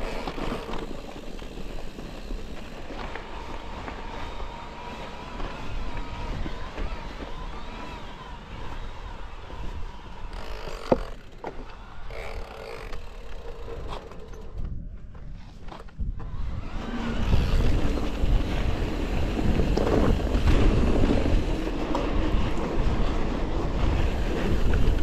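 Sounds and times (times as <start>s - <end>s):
wind buffeting microphone: 0.0s - 11.2s, 12.9s - 25.0s
mountain bike rumbling on rough trail: 0.0s - 25.0s.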